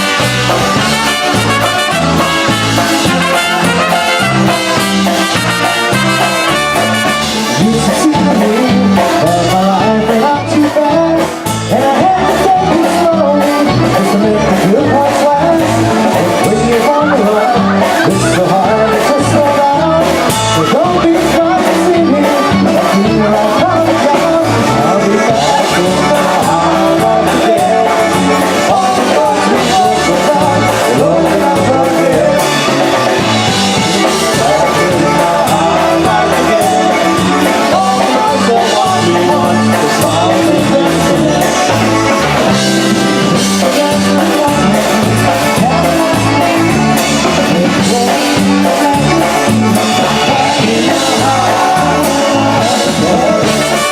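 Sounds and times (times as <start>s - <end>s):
polka band playing: 0.0s - 53.9s.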